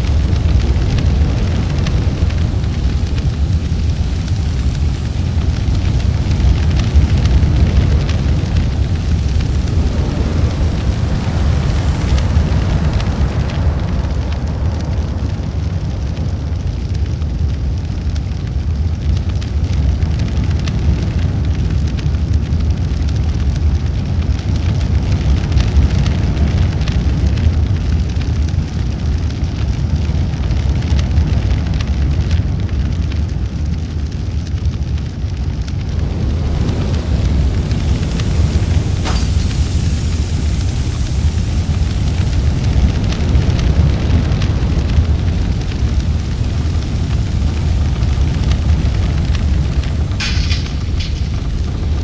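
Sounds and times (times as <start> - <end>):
large fire burning and crackling: 0.0 - 52.0.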